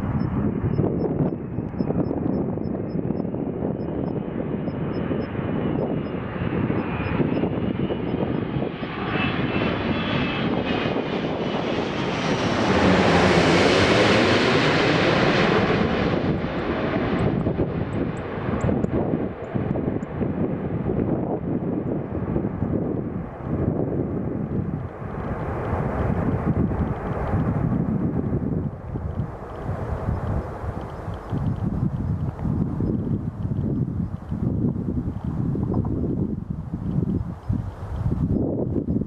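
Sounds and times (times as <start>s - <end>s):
jet engines passing overhead: 0.0s - 39.0s.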